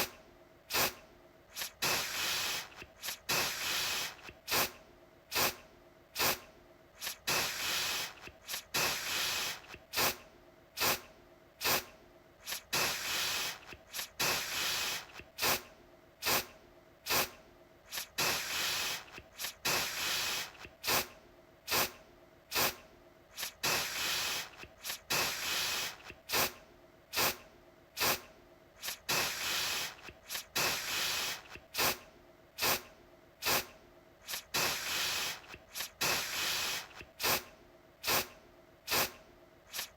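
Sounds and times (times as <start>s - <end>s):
aerosol can spraying: 0.7s - 5.6s, 6.2s - 6.4s, 7.0s - 10.2s, 10.8s - 16.5s, 17.1s - 21.1s, 21.7s - 27.4s, 28.0s - 32.0s, 32.6s - 38.3s, 38.9s - 39.9s.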